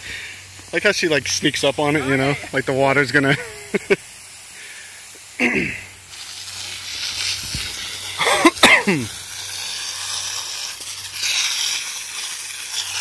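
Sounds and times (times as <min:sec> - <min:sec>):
hose nozzle spraying water: 0:00.0 - 0:13.0.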